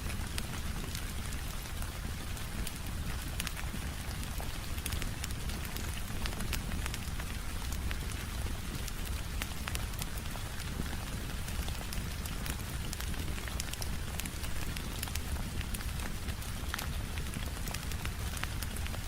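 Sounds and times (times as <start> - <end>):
steady rain: 0.0 - 19.0
wood fire crackling and popping: 0.0 - 19.0.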